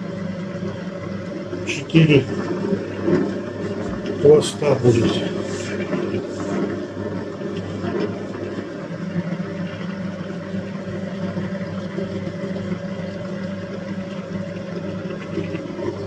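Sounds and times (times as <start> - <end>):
noodle machine motor humming: 0.0 - 16.0.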